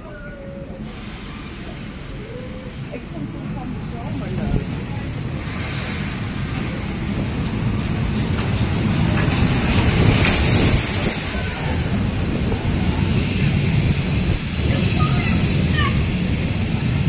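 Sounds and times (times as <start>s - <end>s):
train wheels rumbling on rails: 0.0s - 17.0s
steam locomotive hiss: 0.6s - 17.0s.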